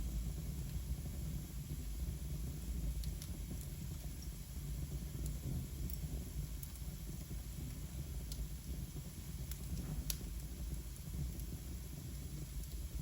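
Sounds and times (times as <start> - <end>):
fire crackles and pops: 0.0 - 13.0
fire low rumble: 0.0 - 13.0.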